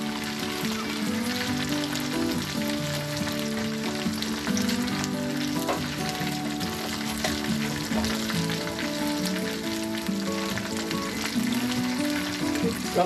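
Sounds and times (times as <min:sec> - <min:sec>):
background music: 0:00.0 - 0:13.0
prawns sizzling in hot oil: 0:00.0 - 0:13.0.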